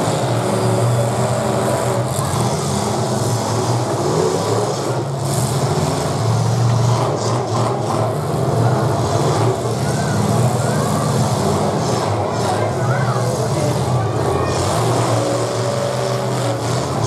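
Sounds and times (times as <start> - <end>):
car engines running loud: 0.0 - 17.0.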